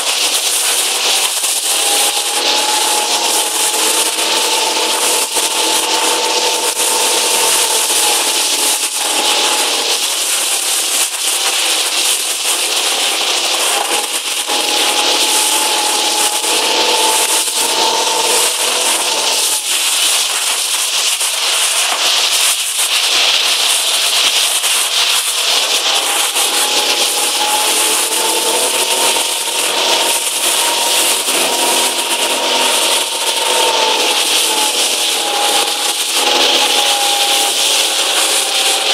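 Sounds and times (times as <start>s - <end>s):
high humming whine: 0.0s - 38.9s
water rushing past hull: 0.0s - 38.9s.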